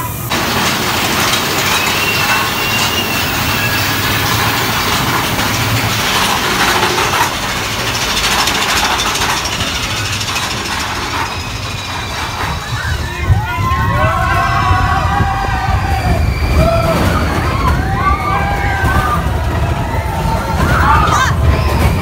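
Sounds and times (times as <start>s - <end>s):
roller coaster cars rattling: 0.0s - 22.0s.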